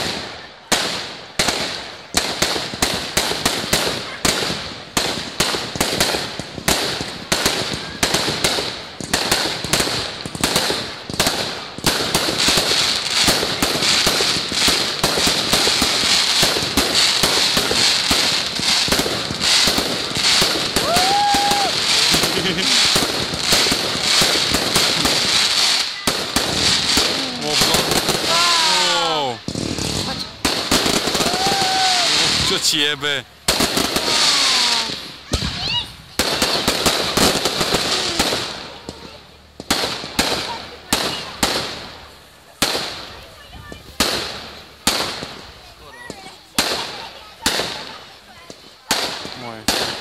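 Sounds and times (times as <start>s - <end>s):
fireworks launching and bursting: 0.0s - 50.0s.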